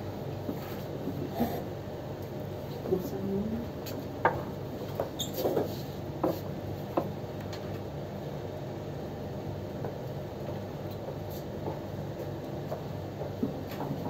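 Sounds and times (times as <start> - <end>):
electric fans humming: 0.0 - 14.0.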